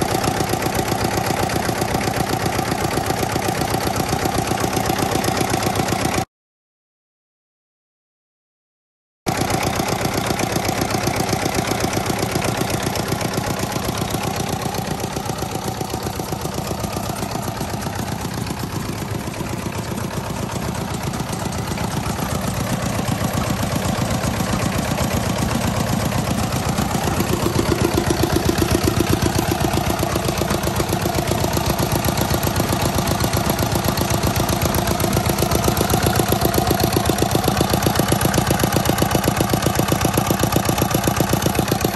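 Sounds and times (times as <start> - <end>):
diesel engine running: 0.0 - 6.2, 9.3 - 41.9.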